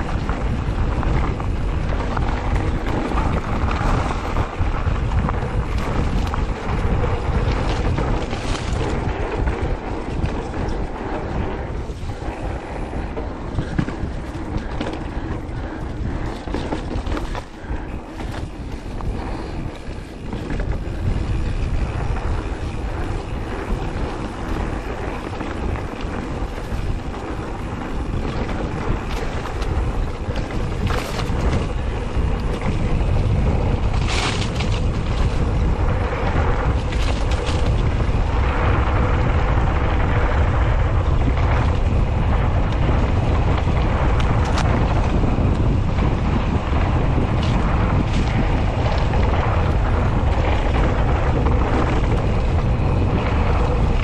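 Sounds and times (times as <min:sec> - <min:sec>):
bike rattling over bumps: 0:00.0 - 0:54.0
tyre rumble over ground: 0:00.0 - 0:54.0
wind buffeting microphone: 0:00.0 - 0:54.0.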